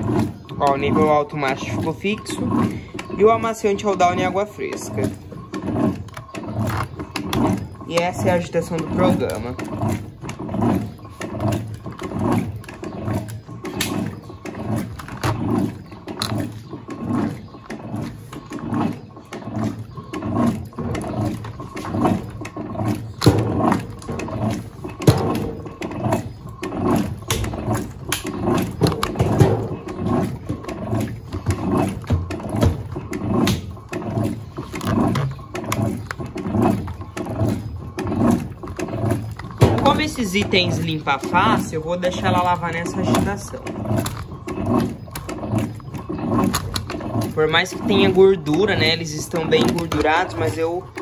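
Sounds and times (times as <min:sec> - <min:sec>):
washing machine agitator motor surging: 0:00.0 - 0:51.0
water and laundry sloshing: 0:00.0 - 0:51.0.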